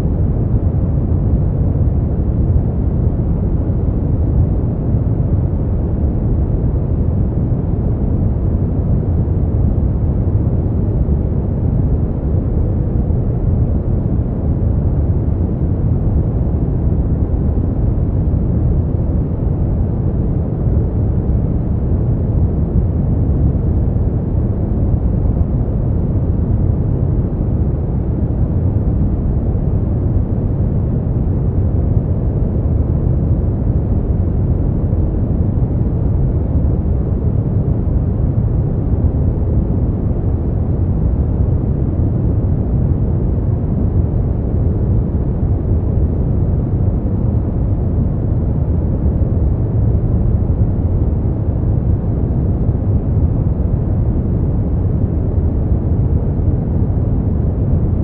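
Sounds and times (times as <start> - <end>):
deep muffled brown noise: 0.0 - 58.0.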